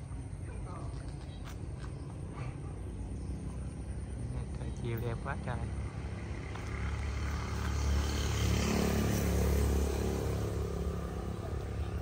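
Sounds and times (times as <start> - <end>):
vehicle passing by: 2.0 - 12.0.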